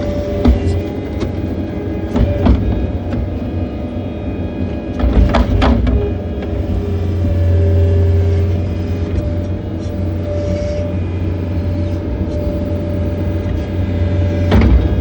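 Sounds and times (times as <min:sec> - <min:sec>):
diesel engine running: 0:00.0 - 0:15.0
thin steady whine: 0:00.0 - 0:15.0.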